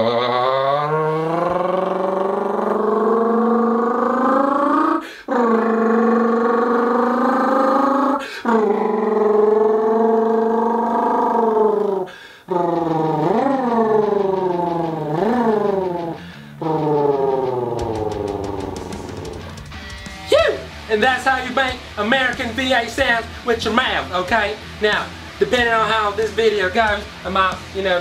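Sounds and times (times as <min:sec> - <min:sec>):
man imitating revving engine vocally: 0:00.0 - 0:19.5, 0:20.3 - 0:28.0.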